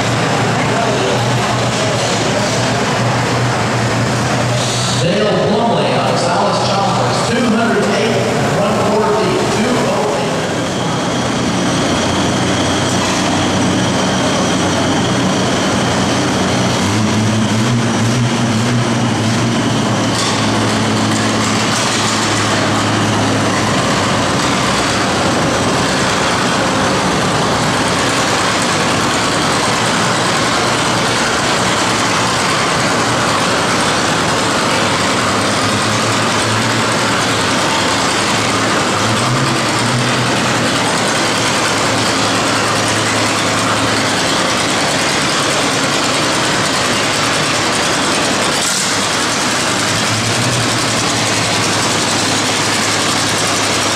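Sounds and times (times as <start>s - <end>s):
low engine note rising: 0.0s - 53.9s
tractor engines running: 0.0s - 53.9s.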